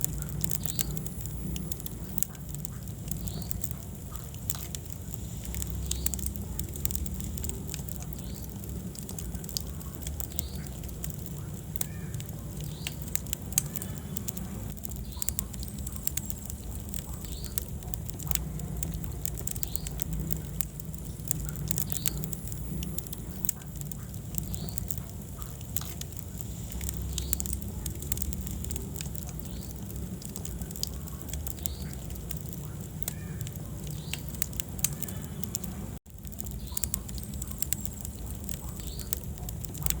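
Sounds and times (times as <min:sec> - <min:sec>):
fire crackling and popping: 0:00.0 - 0:40.0
low rumble of flames: 0:00.0 - 0:40.0.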